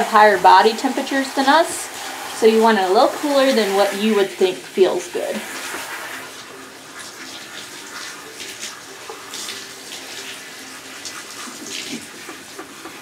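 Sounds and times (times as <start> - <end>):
shower sprayer hissing: 0.0 - 13.0
water splashing: 0.0 - 13.0.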